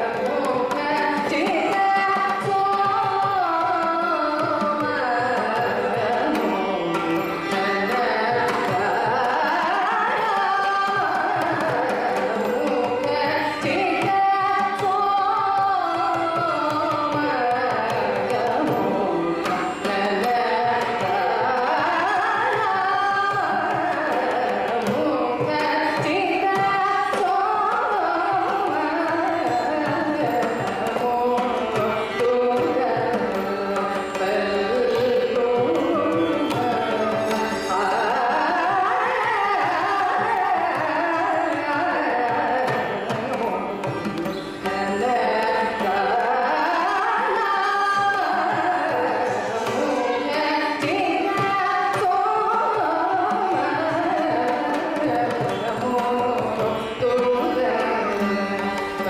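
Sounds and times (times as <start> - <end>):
woman singing: 0.0 - 59.0.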